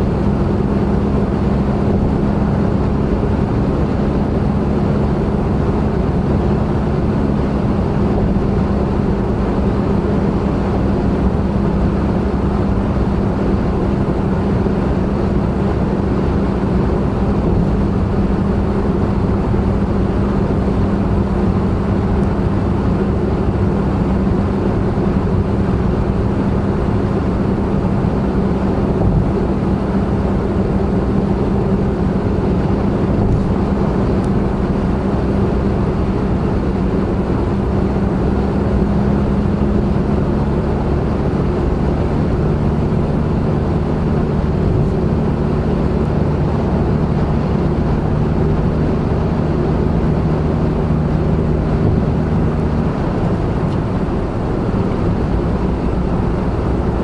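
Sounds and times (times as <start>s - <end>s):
car engine droning: 0.0s - 57.0s
road and tyre noise: 0.0s - 57.0s.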